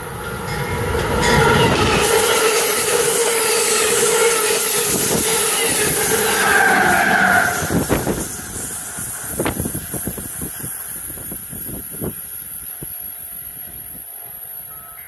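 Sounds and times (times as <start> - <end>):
rush of rail noise: 0.0 - 15.0.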